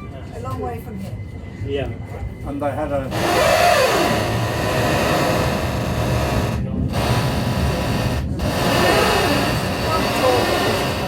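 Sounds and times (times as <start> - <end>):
tram wheels rumbling on rail: 0.1 - 11.0.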